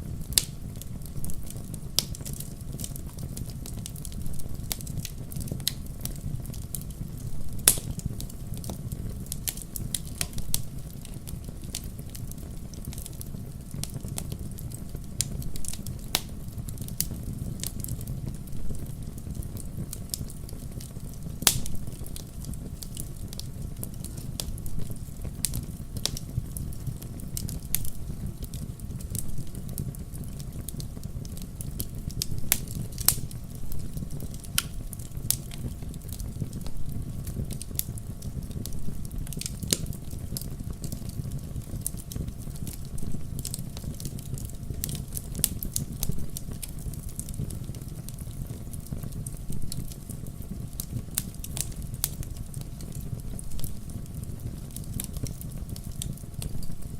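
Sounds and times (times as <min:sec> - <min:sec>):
low rumble of flames: 0:00.0 - 0:56.9
firewood popping and snapping: 0:00.3 - 0:26.3, 0:26.9 - 0:56.9.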